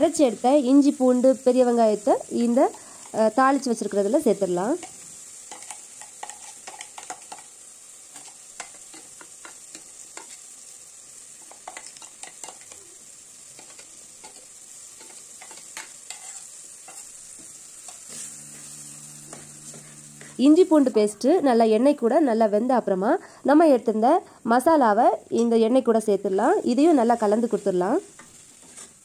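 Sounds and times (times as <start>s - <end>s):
onions sizzling in hot oil: 0.0s - 29.0s.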